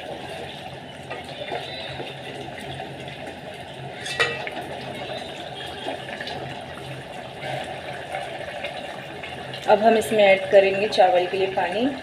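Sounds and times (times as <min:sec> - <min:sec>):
broth simmering and bubbling: 0:00.0 - 0:12.0.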